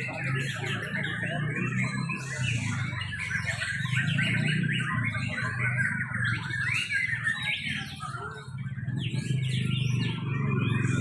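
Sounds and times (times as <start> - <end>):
birds whistling and chirping: 0.0 - 11.0.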